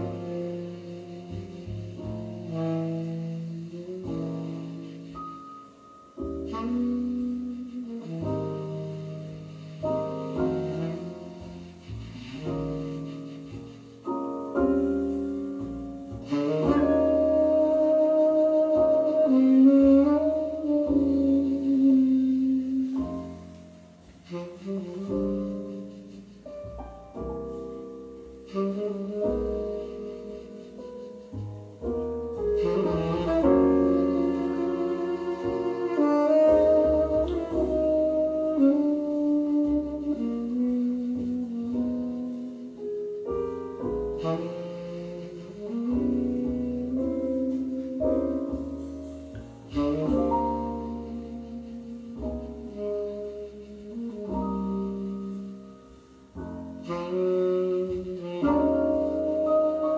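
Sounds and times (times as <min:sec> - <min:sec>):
piano instrumental music on loudspeakers: 0:00.0 - 0:59.9.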